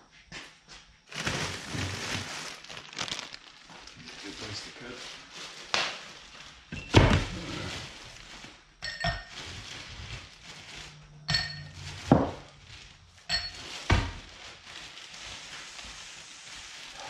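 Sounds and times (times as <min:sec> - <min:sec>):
plastic bag rustling: 0:01.1 - 0:17.0.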